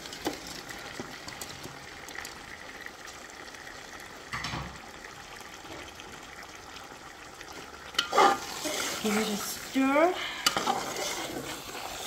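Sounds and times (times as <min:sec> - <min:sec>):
curry bubbling in pot: 0:00.0 - 0:12.0.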